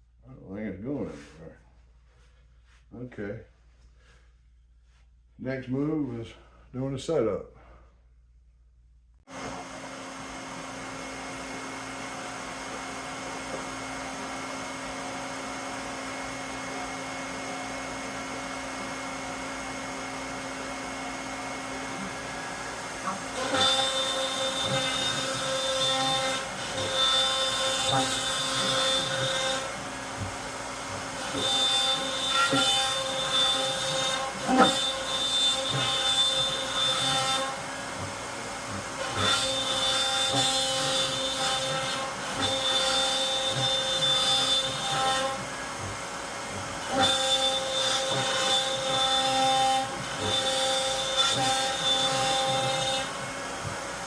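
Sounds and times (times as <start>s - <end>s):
cnc router motors whining: 9.4s - 54.0s.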